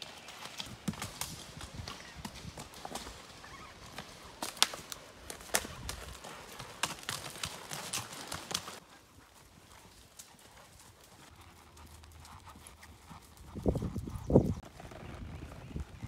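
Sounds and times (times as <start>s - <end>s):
horse hooves on gravel: 0.0s - 16.0s.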